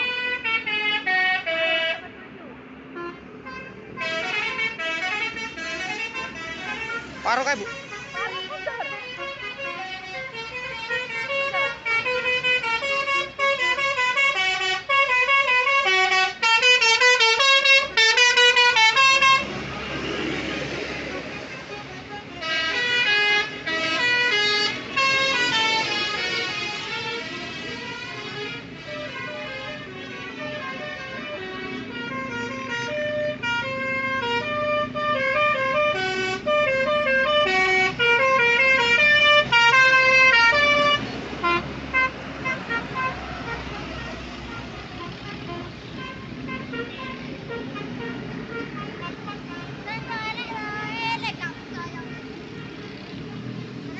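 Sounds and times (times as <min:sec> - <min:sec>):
musical bus air horns: 0:00.0 - 0:02.2, 0:02.9 - 0:20.4, 0:21.0 - 0:51.2, 0:52.0 - 0:53.2.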